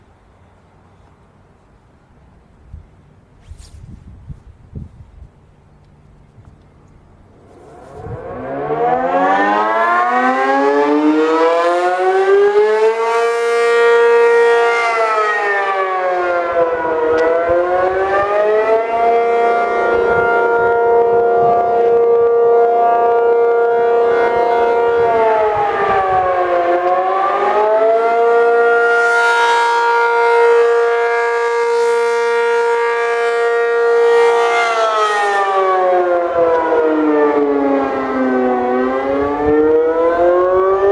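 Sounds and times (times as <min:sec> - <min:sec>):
electromechanical siren wailing: 0:07.2 - 0:40.9.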